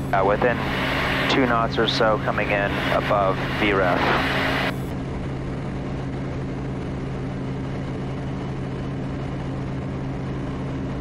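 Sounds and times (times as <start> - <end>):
turboprop engine drone in flight: 0.0 - 11.0.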